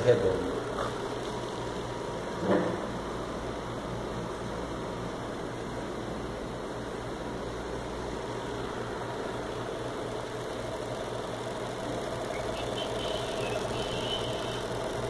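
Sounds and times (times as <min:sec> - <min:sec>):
electric motor hum and whir: 0:00.0 - 0:15.0.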